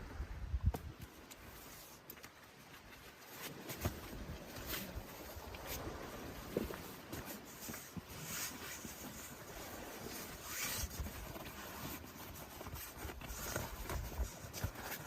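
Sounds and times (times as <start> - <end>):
rustling: 1.4 - 15.0.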